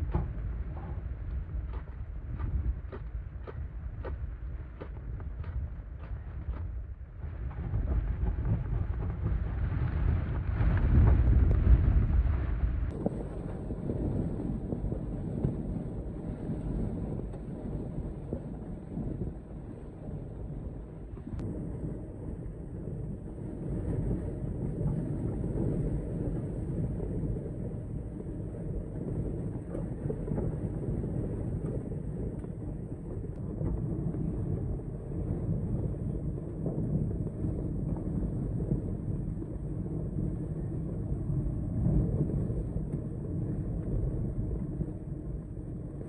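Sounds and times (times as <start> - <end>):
wind gusting: 0.0 - 46.0.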